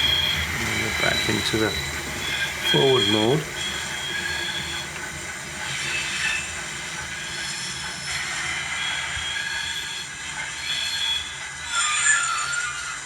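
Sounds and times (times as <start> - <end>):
steam exhaust and hiss: 0.0 - 13.0.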